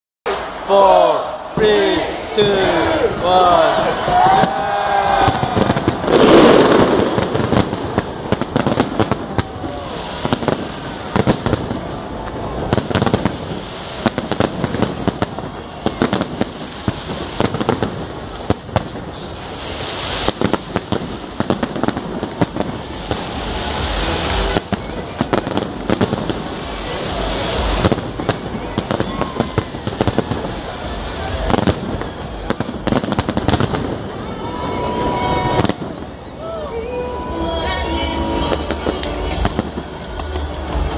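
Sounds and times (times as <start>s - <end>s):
fireworks bangs and crackles: 1.5s - 40.9s.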